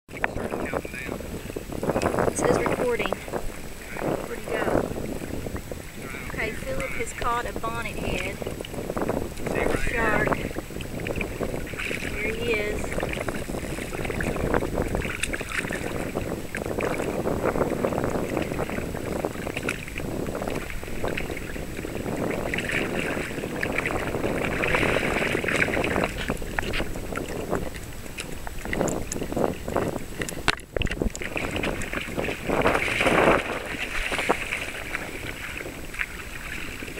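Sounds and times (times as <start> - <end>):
water lapping against a hull: 0.1 - 36.9
wind buffeting microphone: 0.1 - 36.9.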